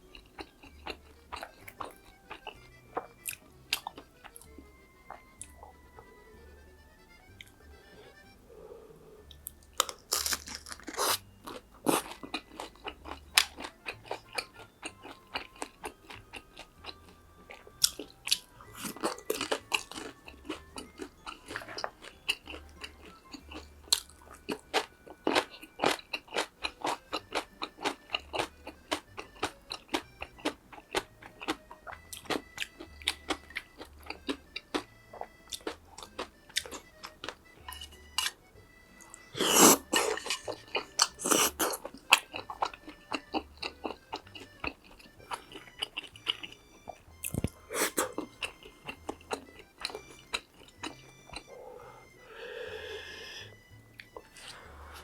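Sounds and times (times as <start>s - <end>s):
crunching and chewing: 0.0s - 6.6s, 9.2s - 52.2s, 54.0s - 55.0s.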